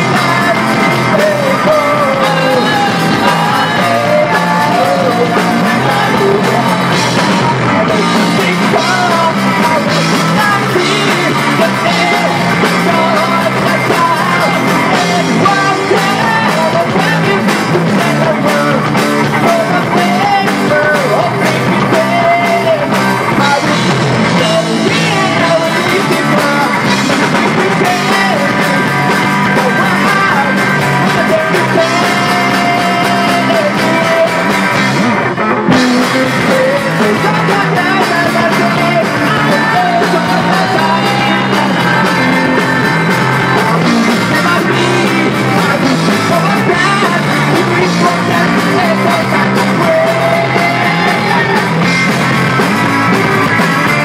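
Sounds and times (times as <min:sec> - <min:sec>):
bass guitar: 0:00.0 - 0:54.0
drums: 0:00.0 - 0:54.0
electric guitars: 0:00.0 - 0:54.0
man singing: 0:00.0 - 0:54.0.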